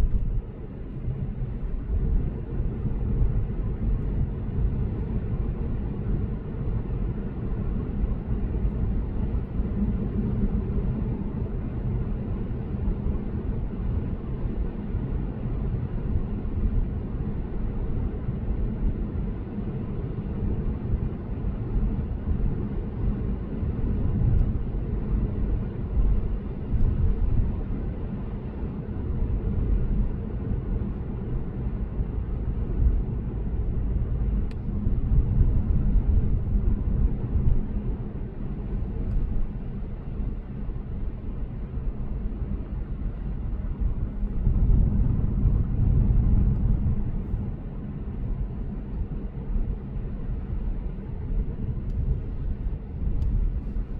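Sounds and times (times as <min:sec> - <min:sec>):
road and tyre rumble: 0:00.0 - 0:53.9.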